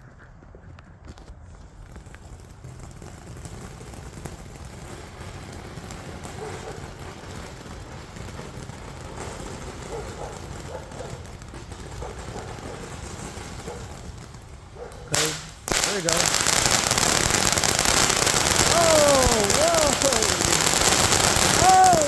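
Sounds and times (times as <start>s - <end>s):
firework fountain hissing: 1.6s - 22.0s.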